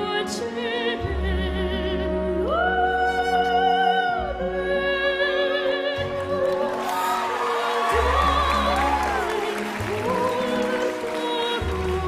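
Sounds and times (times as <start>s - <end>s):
girl singing operatically: 0.0s - 12.0s
orchestral accompaniment: 0.0s - 12.0s.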